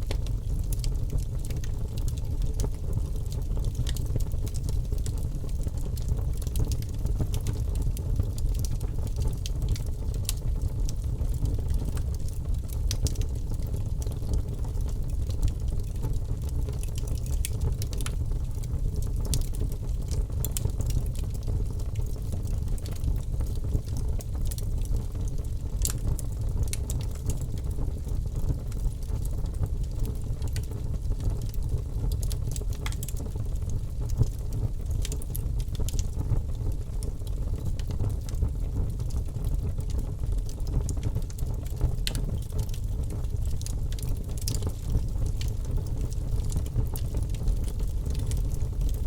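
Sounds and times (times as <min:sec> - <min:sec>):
logs burning in fireplace: 0:00.0 - 0:49.0.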